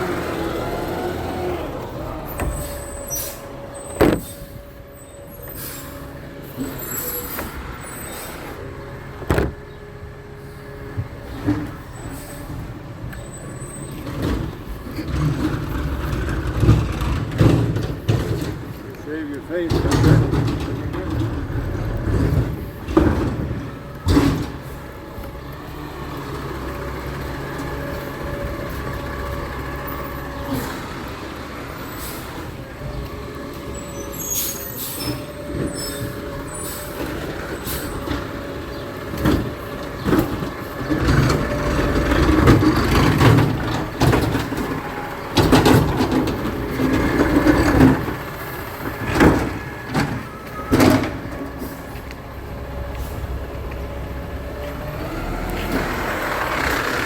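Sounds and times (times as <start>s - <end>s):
garbage truck engine running: 0.0s - 57.0s.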